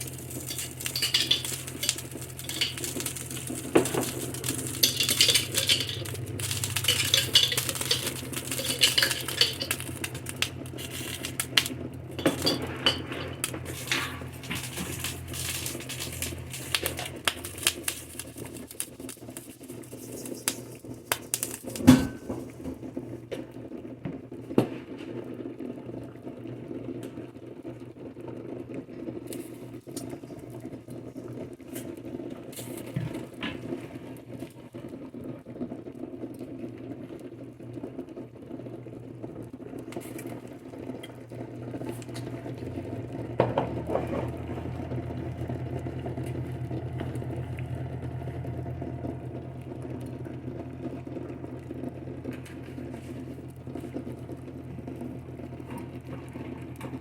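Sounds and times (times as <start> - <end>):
chicken frying in oil: 0.0 - 57.0.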